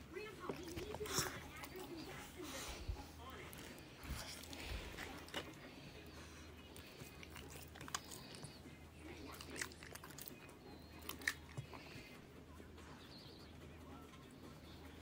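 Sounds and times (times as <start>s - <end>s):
puppy snuffling: 0.2s - 12.3s.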